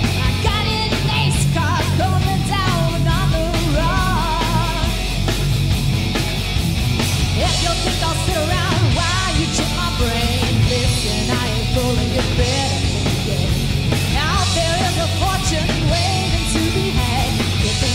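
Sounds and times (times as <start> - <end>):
bass guitar: 0.0 - 17.9
drums: 0.0 - 17.9
electric guitars: 0.0 - 17.9
woman singing: 0.2 - 5.0, 7.4 - 17.9.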